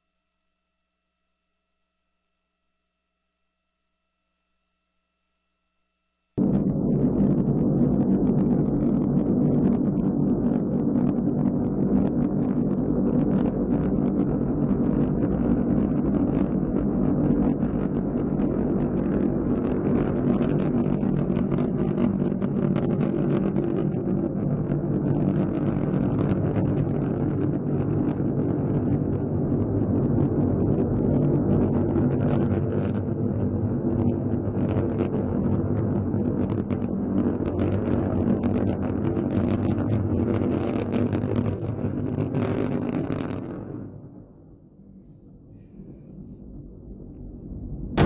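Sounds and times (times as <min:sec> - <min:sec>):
rocket engines rumbling and crackling: 0:06.4 - 0:48.0.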